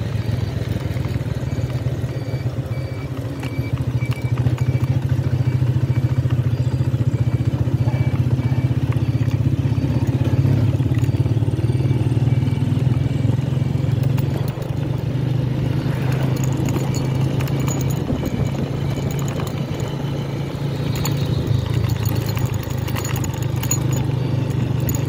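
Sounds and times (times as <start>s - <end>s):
faint high beep: 0.0s - 25.0s
motorcycle engine running: 0.0s - 25.0s.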